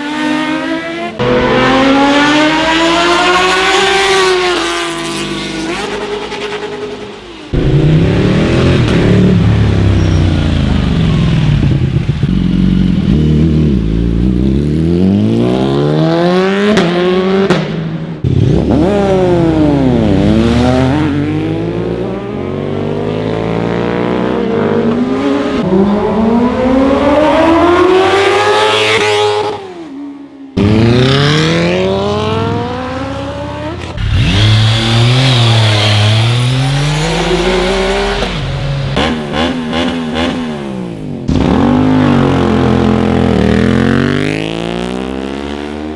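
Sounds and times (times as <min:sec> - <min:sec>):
motorcycle engines accelerating: 0:00.0 - 0:45.9.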